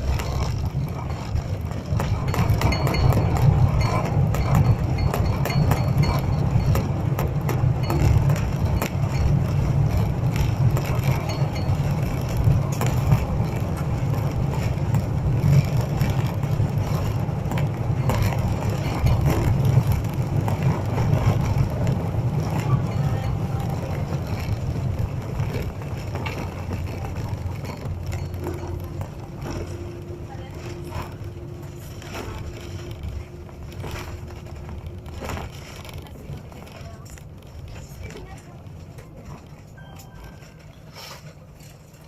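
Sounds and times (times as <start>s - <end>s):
aircraft cabin rumble: 0.0s - 42.0s.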